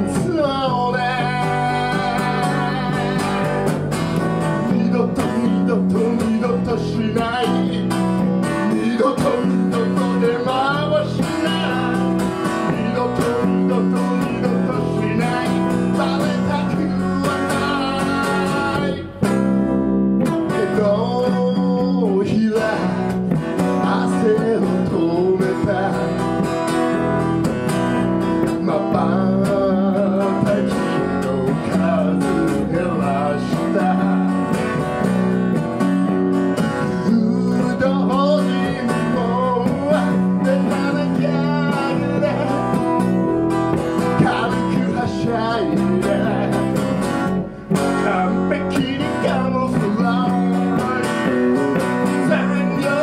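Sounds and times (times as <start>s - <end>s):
person singing: 0.0s - 19.2s, 20.4s - 26.5s, 28.4s - 34.6s, 36.7s - 53.0s
electric bass: 0.0s - 53.0s
strummed acoustic guitar: 0.0s - 53.0s.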